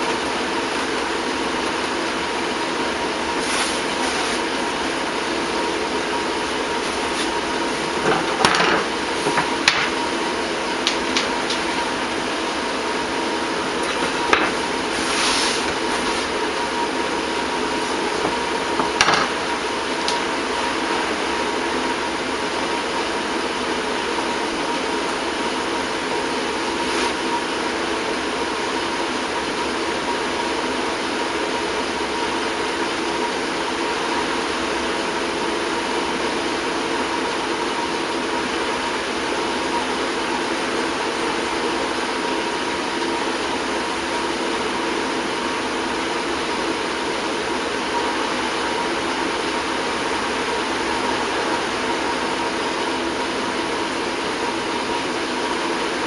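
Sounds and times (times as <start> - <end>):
mechanical hum and hiss: 0.0 - 56.0.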